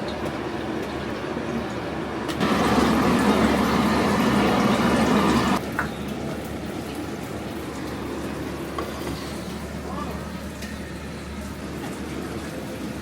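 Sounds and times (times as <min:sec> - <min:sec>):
steady background hum: 0:00.0 - 0:13.0
tap water running into sink: 0:02.3 - 0:13.0.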